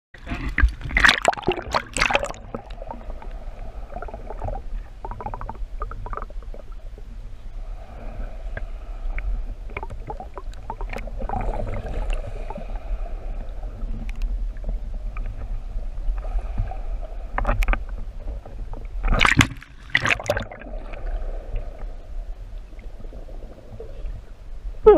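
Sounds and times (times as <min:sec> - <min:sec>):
muffled underwater rumble: 0:00.2 - 0:24.9
sea water splashing: 0:00.2 - 0:24.9.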